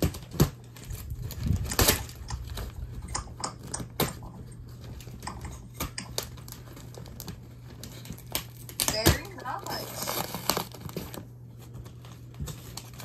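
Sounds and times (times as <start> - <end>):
hands working at packing tape: 0.0 - 13.0.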